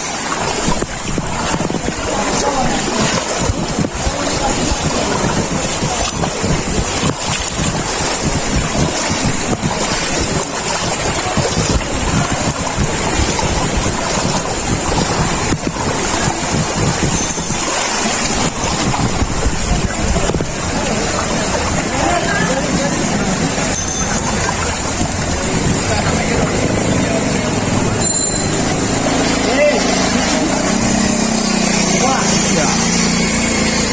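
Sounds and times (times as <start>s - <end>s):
wind buffeting microphone: 0.0s - 29.2s.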